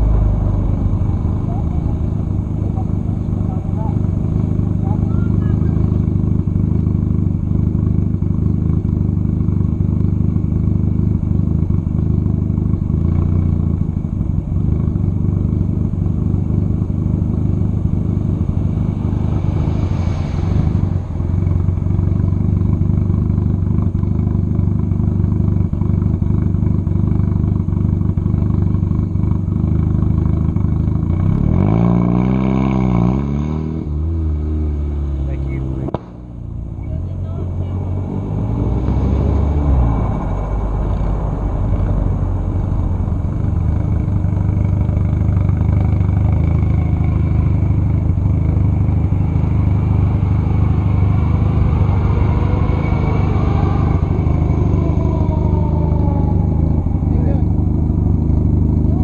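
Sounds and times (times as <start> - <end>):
car engine running while driving: 0.0 - 59.0.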